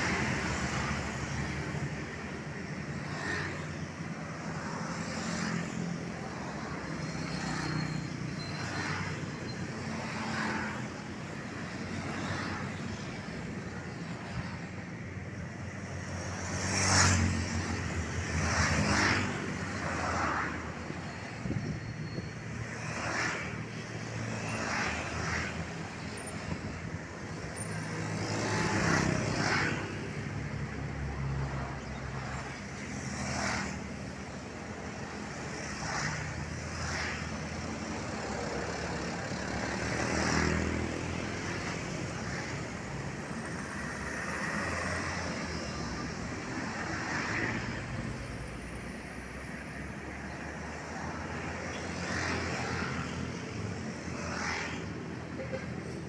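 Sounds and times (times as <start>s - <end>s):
vehicles driving past: 0.0s - 56.0s.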